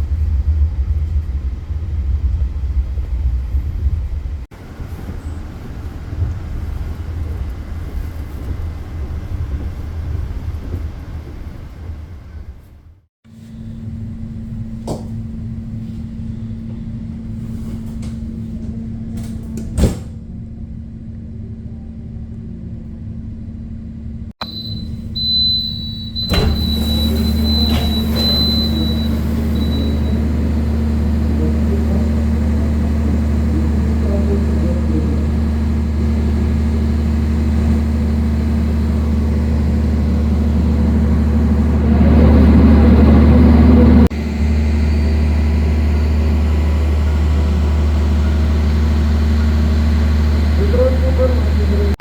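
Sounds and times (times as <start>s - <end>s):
train carriage rumble and hum: 0.0s - 52.0s.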